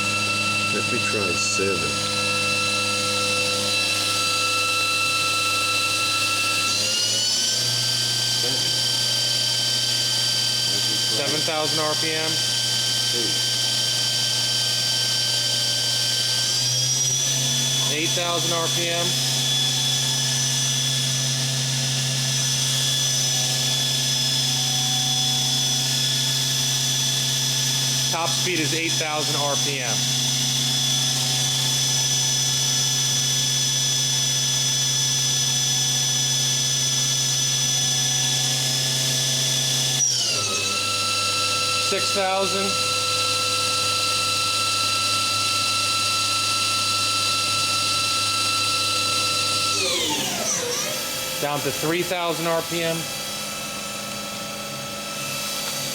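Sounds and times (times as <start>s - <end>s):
machine spindle hum and whine: 0.0s - 55.9s.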